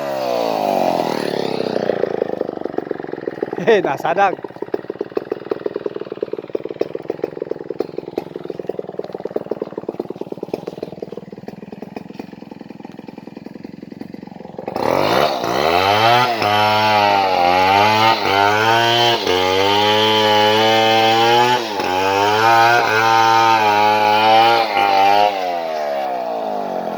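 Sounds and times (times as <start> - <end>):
chainsaw idling and revving: 0.0 - 26.9.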